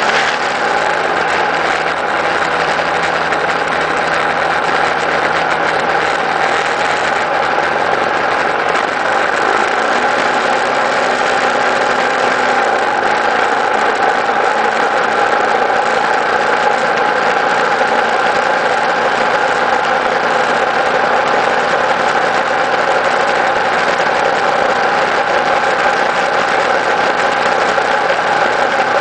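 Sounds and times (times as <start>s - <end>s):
steady whine: 0.0s - 29.0s
vehicle engine and road noise: 0.0s - 29.0s.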